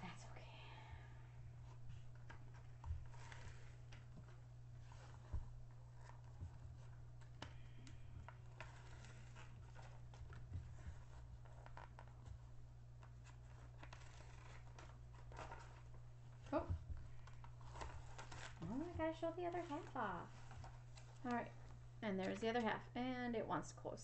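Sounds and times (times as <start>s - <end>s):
plastic rustling and crinkling: 1.6s - 23.0s.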